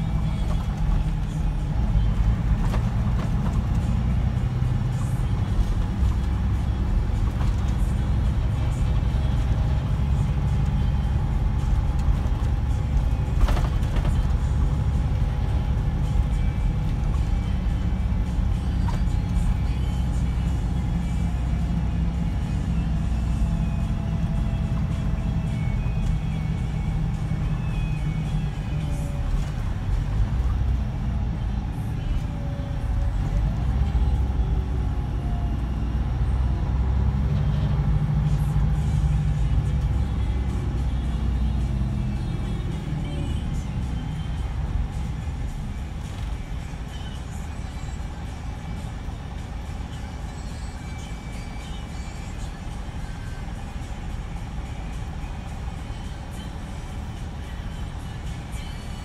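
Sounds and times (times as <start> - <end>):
diesel engine drone: 0.0 - 59.0
road noise: 0.0 - 59.0.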